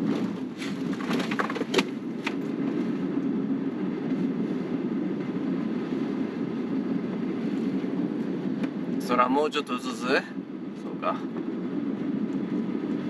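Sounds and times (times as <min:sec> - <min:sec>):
moving vehicle rumble: 0:00.0 - 0:13.0.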